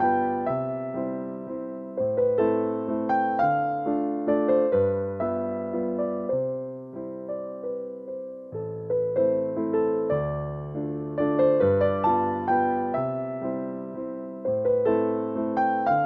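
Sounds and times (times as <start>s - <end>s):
electric piano calm melody: 0.0s - 16.0s.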